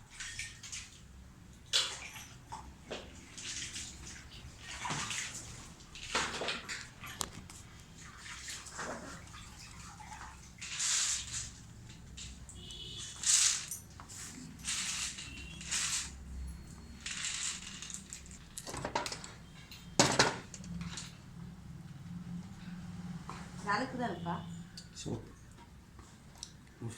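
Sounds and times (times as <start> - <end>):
water splashing and sloshing: 0.0 - 26.6.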